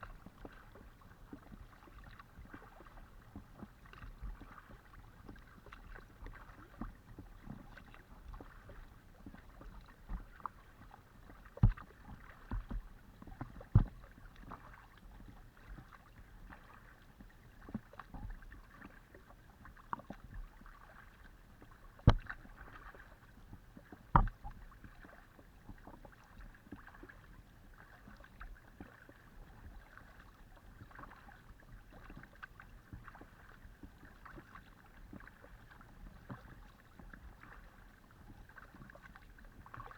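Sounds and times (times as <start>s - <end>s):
paddle strokes: 0.0s - 39.9s
water splashing and trickling: 0.0s - 39.9s.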